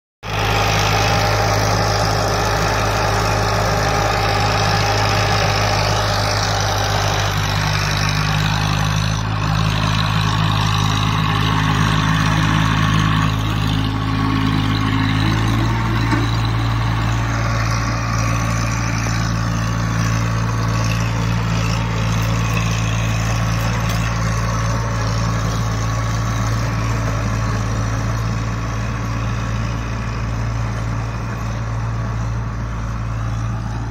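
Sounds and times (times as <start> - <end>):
tractor diesel engine under load: 0.2 - 33.9.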